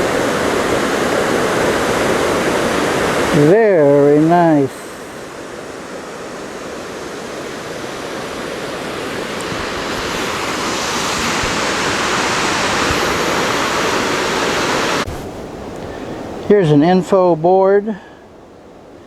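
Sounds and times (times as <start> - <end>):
waterfall roaring: 0.0 - 17.7.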